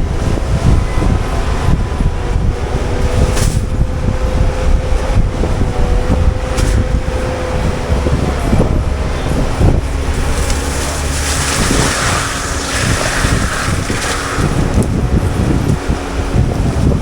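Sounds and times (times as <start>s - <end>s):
heavy machine drone with whine: 0.0s - 17.0s.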